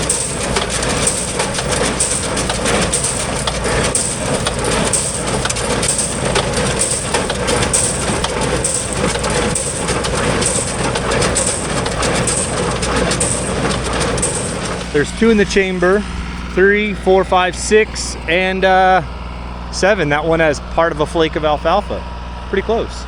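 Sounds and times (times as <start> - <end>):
baler rhythmic crunching: 0.0 - 23.0
tractor engine hum: 0.0 - 23.0.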